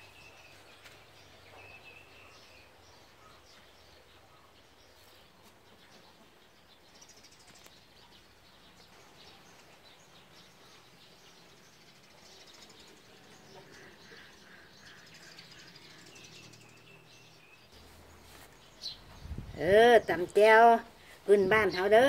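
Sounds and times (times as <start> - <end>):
faint birds chirping: 0.0 - 22.0
outdoor background noise: 0.0 - 22.0.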